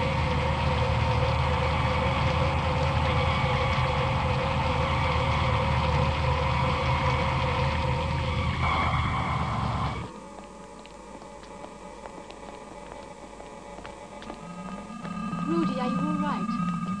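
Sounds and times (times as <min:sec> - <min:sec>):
low machine drone: 0:00.0 - 0:17.0.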